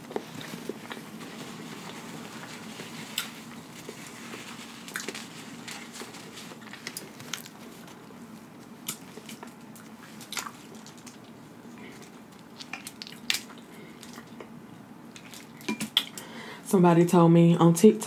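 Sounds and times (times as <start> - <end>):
wet chewing: 0.0 - 16.2.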